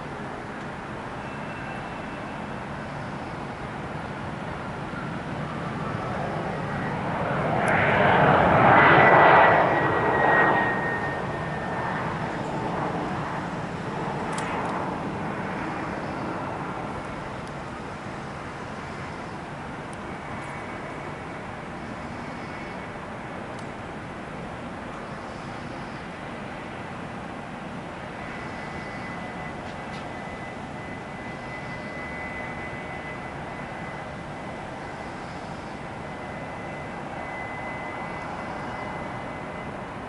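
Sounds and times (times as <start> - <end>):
jet airliner passing: 0.0 - 40.0.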